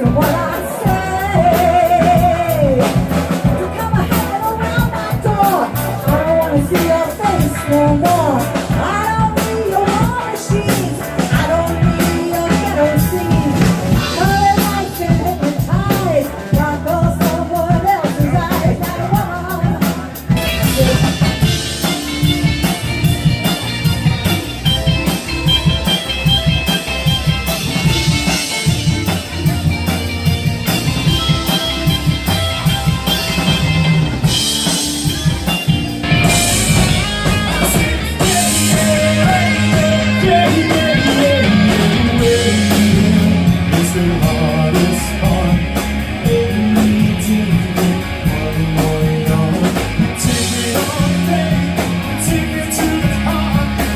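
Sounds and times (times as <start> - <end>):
drum kit beat: 0.0 - 53.9
electric guitar: 0.0 - 53.9
rock band playing: 0.0 - 53.9.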